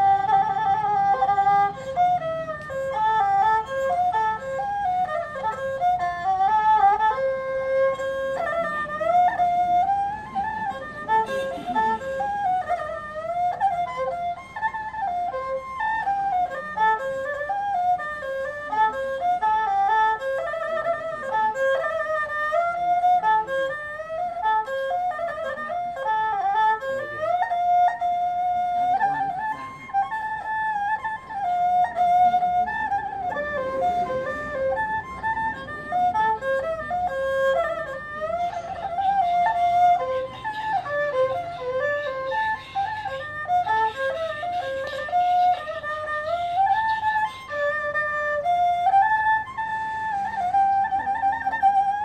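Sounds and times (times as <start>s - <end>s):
bowed fiddle melody: 0.0s - 52.0s.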